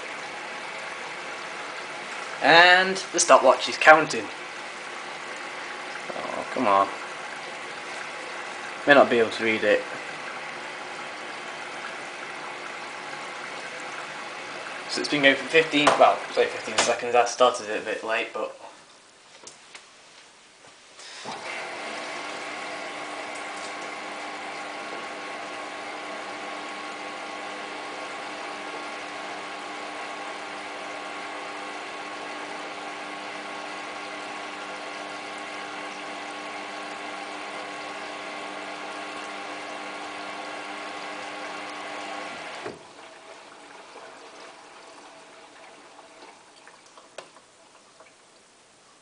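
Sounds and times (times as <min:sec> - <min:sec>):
inlet valve humming: 0:00.0 - 0:18.5, 0:21.0 - 0:48.4
washing machine filling with water: 0:00.0 - 0:18.5, 0:21.0 - 0:48.6.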